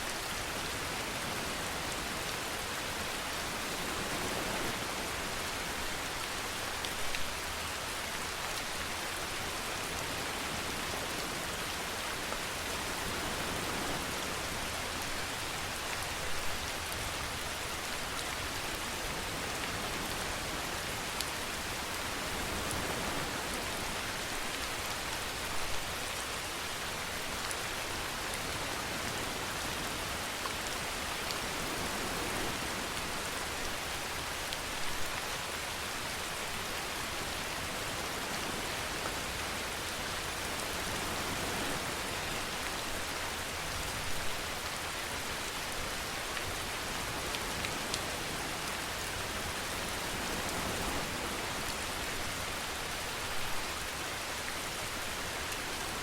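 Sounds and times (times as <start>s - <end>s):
steady rainfall hissing: 0.0s - 56.0s.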